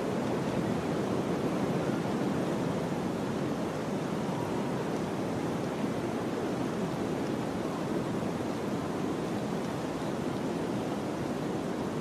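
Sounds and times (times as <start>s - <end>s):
wind rushing through forest: 0.0s - 12.0s.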